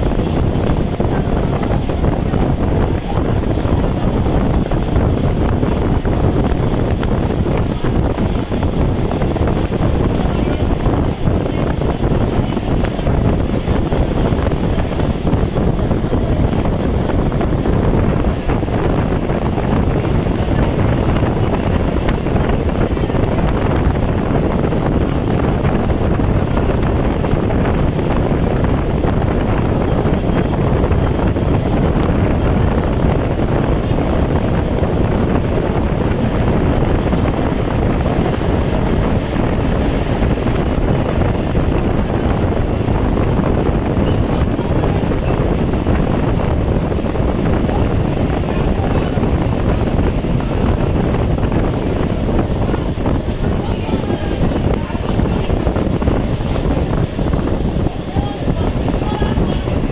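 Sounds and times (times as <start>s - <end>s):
moving train running noise: 0.0s - 59.9s
wind rushing over microphone: 0.0s - 59.9s.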